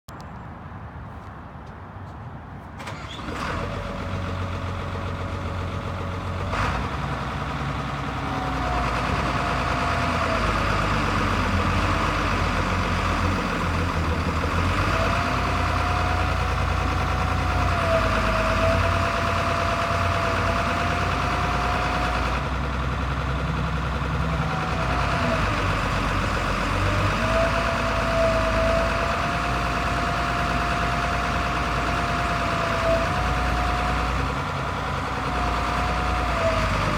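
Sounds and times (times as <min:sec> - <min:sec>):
excavator diesel engine running: 0:02.7 - 0:36.9.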